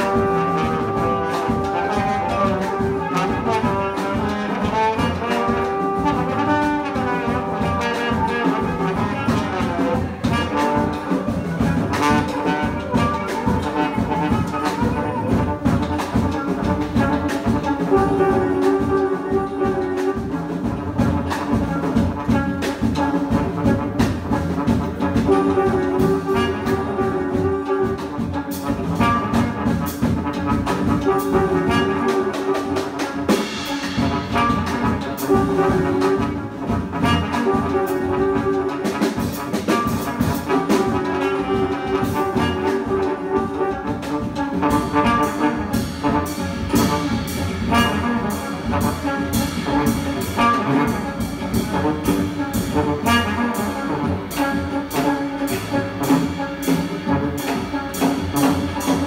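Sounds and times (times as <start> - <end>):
busy drums: 0.0 - 59.0
trombone playing: 0.0 - 59.0
trumpet playing: 0.0 - 59.0.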